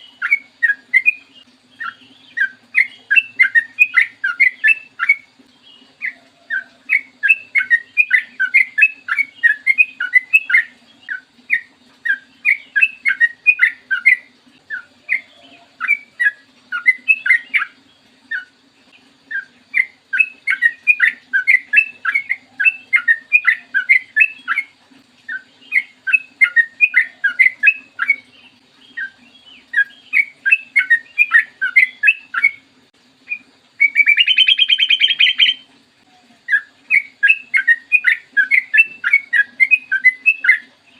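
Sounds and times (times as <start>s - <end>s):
bulbul chattering song: 0.0s - 40.9s
faint steady hum: 0.0s - 40.9s.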